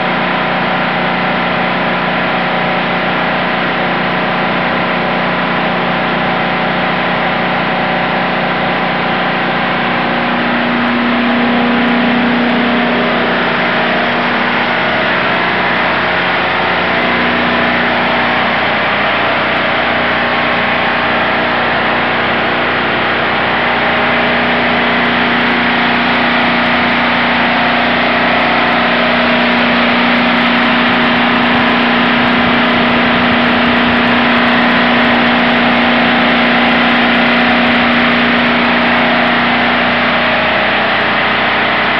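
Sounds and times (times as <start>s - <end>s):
generator engine drone: 0.0s - 41.9s.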